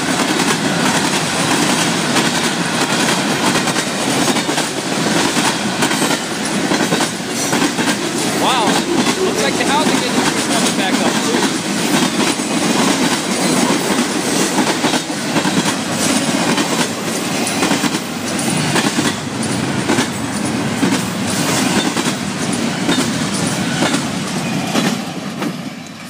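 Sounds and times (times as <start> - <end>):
train wheels rumbling on rail: 0.0 - 26.0
wheels clicking over rail joints: 0.0 - 26.0.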